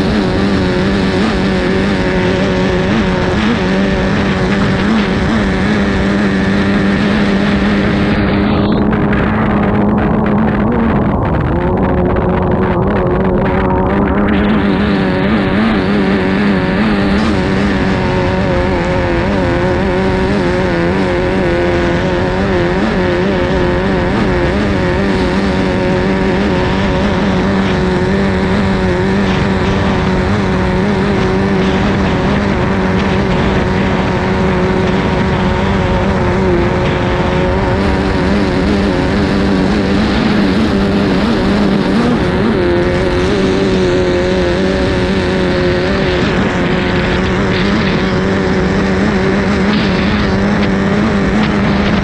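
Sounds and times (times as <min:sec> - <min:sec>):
boat engine running hard: 0:00.0 - 0:52.0
rushing wind: 0:00.0 - 0:52.0
water noise: 0:00.0 - 0:52.0.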